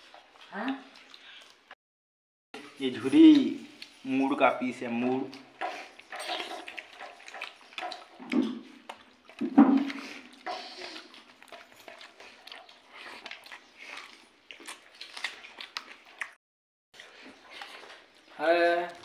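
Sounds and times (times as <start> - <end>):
chewing: 0.0 - 1.8, 2.6 - 16.4, 17.0 - 19.0
wet squelching of food mixed by hand: 0.0 - 1.8, 2.6 - 16.4.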